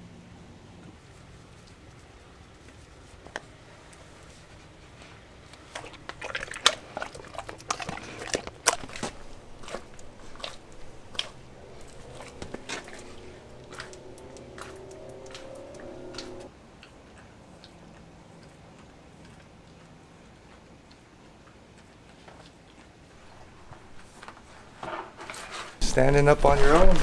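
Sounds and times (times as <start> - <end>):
dog chewing and crunching food: 1.0 - 27.0.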